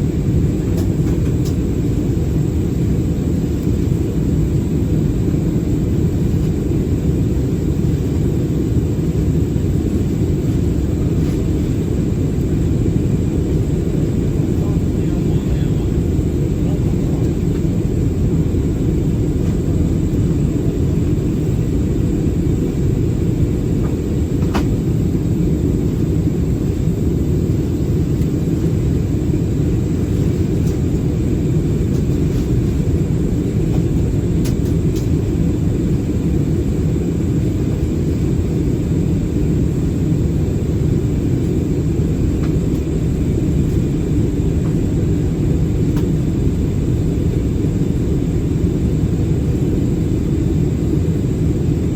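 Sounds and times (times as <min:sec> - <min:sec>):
cabin engine roar: 0:00.0 - 0:51.9.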